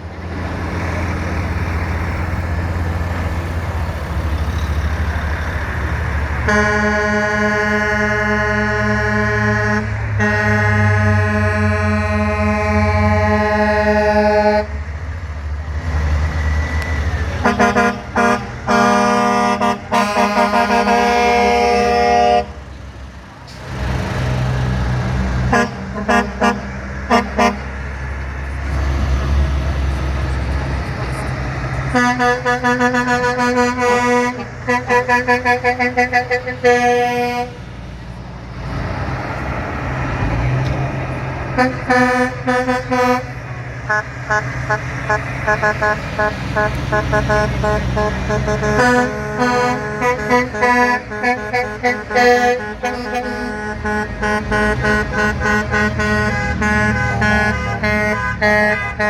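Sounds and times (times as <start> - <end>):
low rumble of passing engines: 0.0 - 59.0
truck horns blowing: 0.3 - 14.9, 16.4 - 22.8, 23.5 - 28.2, 31.1 - 37.8, 38.6 - 59.0.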